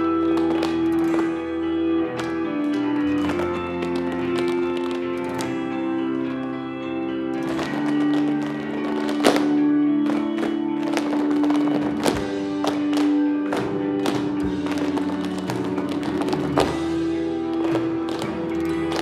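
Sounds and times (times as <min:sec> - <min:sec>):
tap shoes on stage floor: 0:00.0 - 0:06.4, 0:07.3 - 0:19.0
recorded music with held notes: 0:00.0 - 0:19.0.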